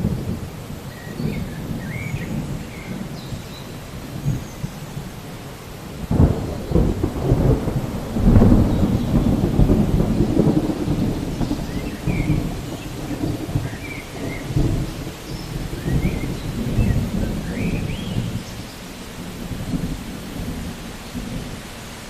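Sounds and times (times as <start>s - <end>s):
thunder rumbling: 0.0s - 21.9s
steady rain: 0.0s - 22.0s.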